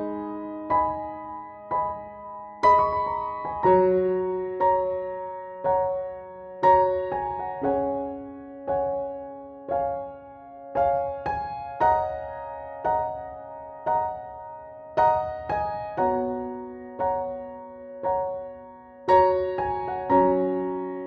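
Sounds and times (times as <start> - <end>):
slow piano-like keyboard melody: 0.0 - 21.0.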